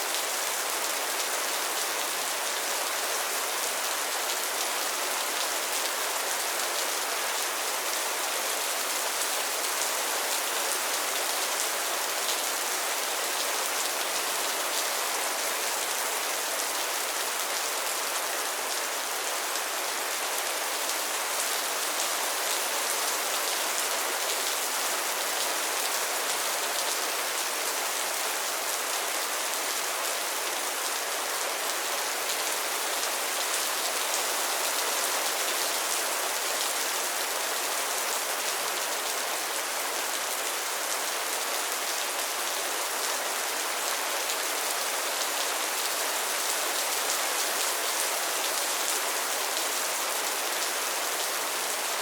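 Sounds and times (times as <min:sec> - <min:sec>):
rain falling on pond water: 0:00.0 - 0:52.0.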